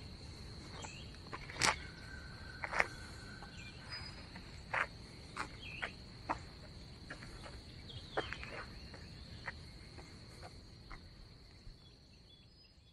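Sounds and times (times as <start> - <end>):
crickets trilling: 0.0 - 12.9.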